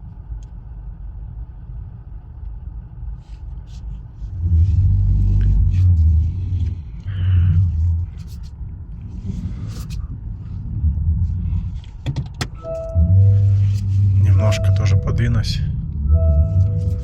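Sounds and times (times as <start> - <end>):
low vehicle engine rumble: 0.0 - 17.0.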